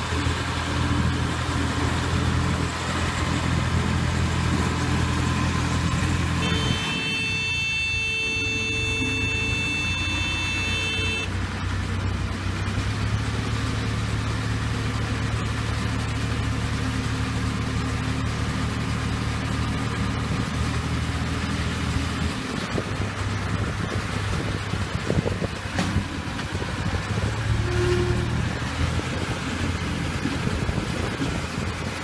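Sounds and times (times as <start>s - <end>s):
baler machinery noise: 0.0s - 32.0s
tractor engine running: 0.0s - 32.0s.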